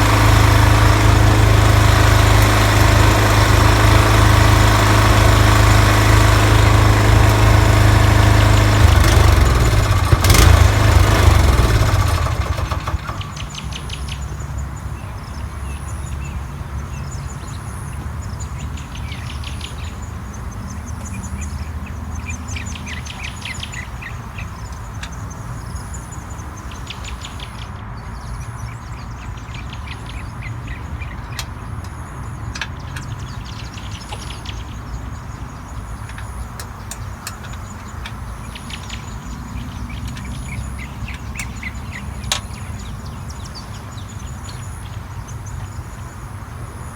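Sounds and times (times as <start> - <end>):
mower engine running: 0.0 - 27.6, 30.6 - 46.9
birds singing: 0.0 - 46.9.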